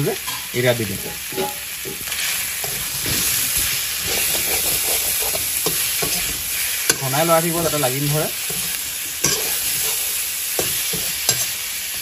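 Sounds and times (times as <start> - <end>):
meat and onions sizzling in oil: 0.0 - 12.0
metal spatula scraping a wok: 1.0 - 12.0.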